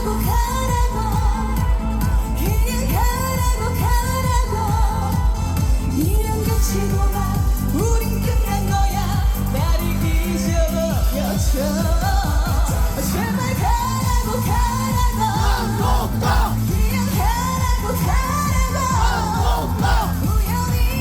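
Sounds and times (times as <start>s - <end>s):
woman singing with vibrato: 0.0s - 21.0s.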